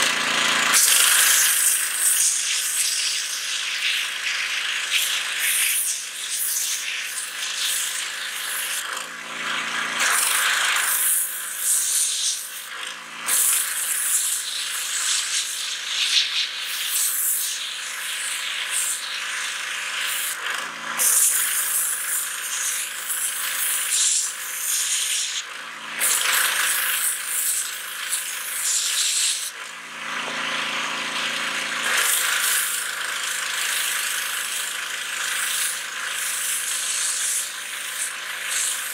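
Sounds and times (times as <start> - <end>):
pressure washer jet hissing: 0.2 - 9.0, 9.9 - 29.6, 31.8 - 38.9.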